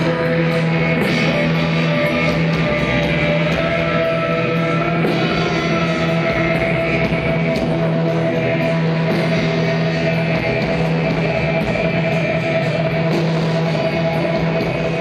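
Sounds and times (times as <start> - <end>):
rock music with guitar: 0.0 - 15.0.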